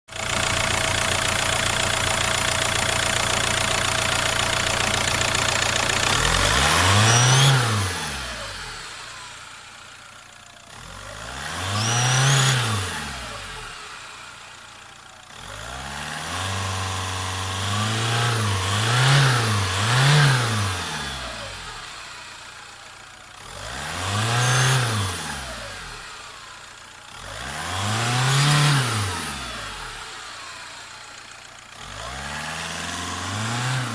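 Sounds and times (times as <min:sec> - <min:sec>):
diesel engine idling and revving: 0:00.1 - 0:33.9.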